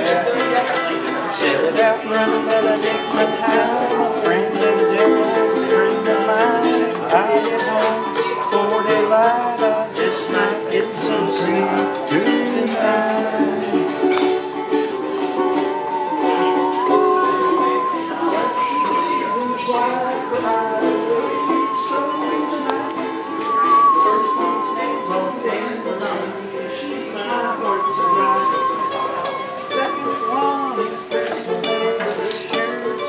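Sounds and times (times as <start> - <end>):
ukulele strumming: 0.0 - 33.0
bowed musical saw melody: 2.1 - 33.0.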